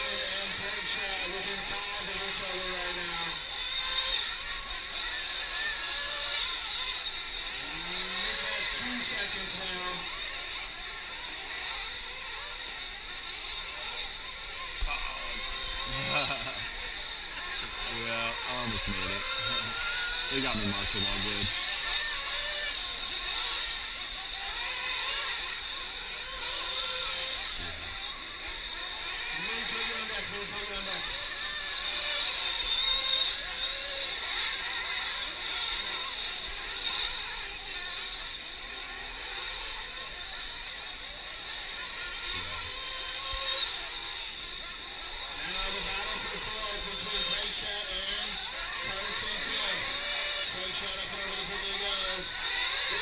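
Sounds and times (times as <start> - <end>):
rc truck engines whining: 0.0 - 53.0.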